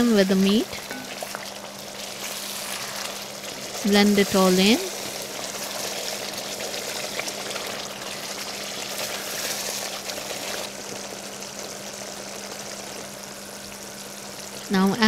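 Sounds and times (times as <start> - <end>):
steady low hum: 0.0 - 15.0
curry sizzling and bubbling in pot: 0.2 - 15.0.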